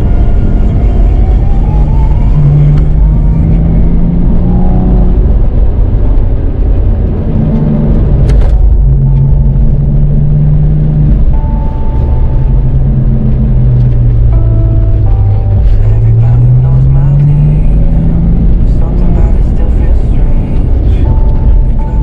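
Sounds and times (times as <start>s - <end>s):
car engine running: 0.0s - 22.0s
road rumble: 0.0s - 22.0s.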